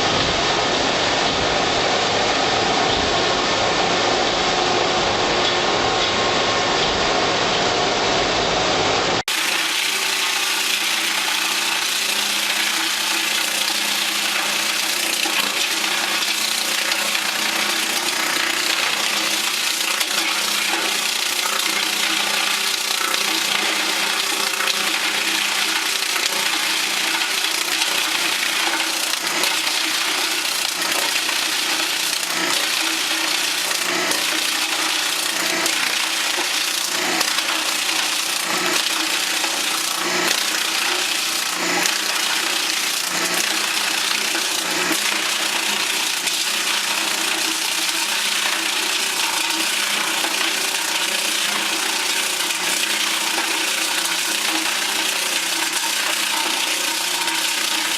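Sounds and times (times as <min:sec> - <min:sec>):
lathe motor hum: 0:09.3 - 0:57.9
wood lathe shaving hiss: 0:09.3 - 0:57.9.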